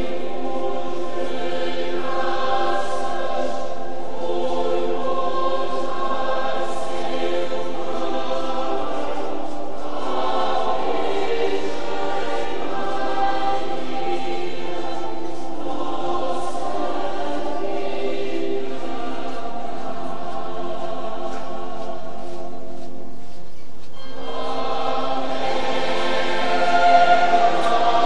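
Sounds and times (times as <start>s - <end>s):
crowd singing a hymn: 0.0s - 28.0s.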